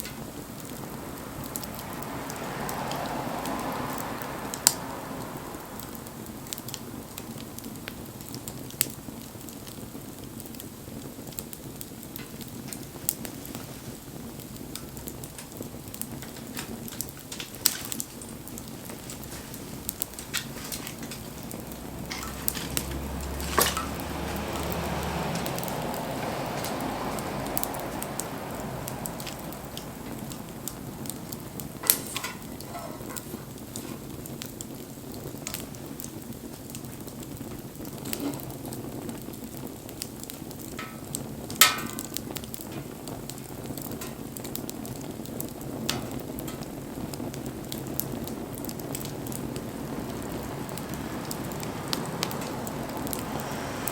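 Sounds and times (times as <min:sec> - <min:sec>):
campfire crackling: 0:00.0 - 0:53.9
loud fire pops: 0:00.0 - 0:53.9.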